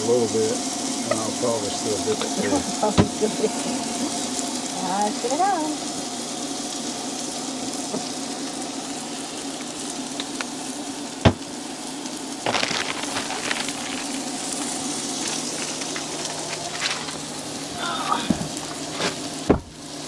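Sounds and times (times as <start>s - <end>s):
crackly sputter: 0.0s - 19.5s
patties sizzling in a pan: 0.0s - 20.0s.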